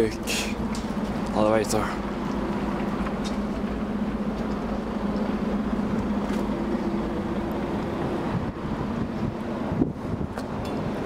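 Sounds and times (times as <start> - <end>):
low mechanical hum: 0.0 - 11.0
outdoor noise: 0.0 - 11.0.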